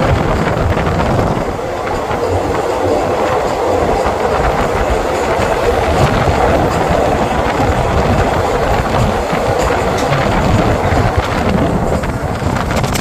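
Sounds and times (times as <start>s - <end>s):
train passing on track: 0.0s - 13.0s.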